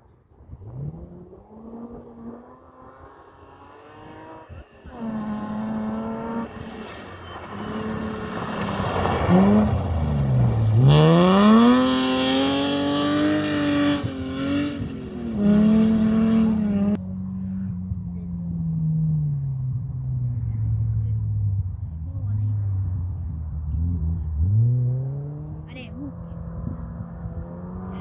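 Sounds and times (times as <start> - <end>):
second rally car engine: 0.0 - 28.0
rally car engine revving: 0.4 - 28.0.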